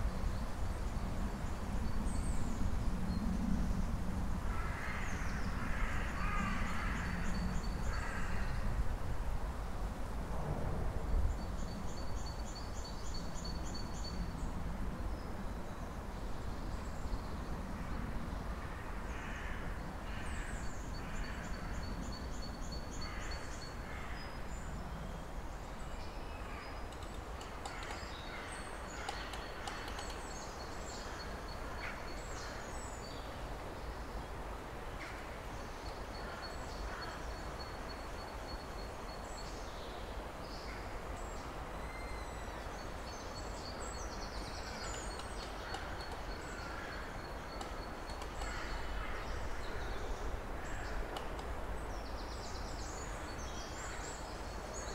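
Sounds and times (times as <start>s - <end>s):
low rumble of ambience: 0.0s - 54.9s.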